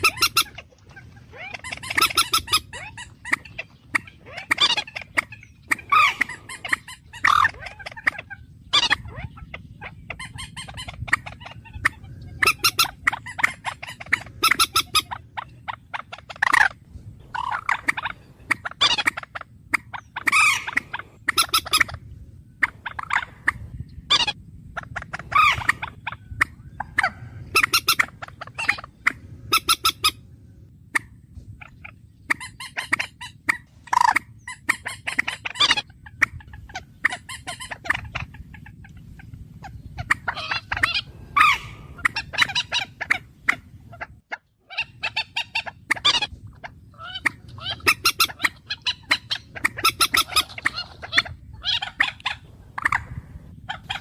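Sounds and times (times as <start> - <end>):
bird calling: 0.0 - 54.0
low hum: 0.0 - 54.0.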